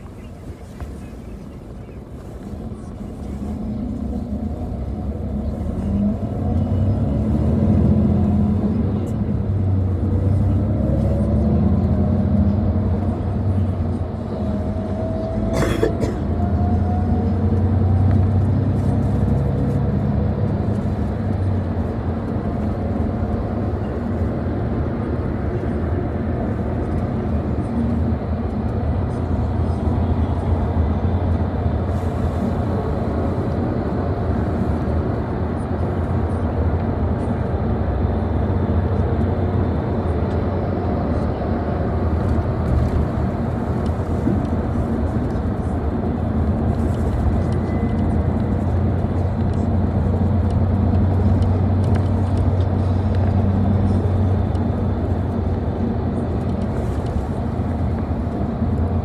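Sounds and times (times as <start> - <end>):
bus engine hum: 0.0 - 59.0
road and tyre rumble: 0.0 - 59.0.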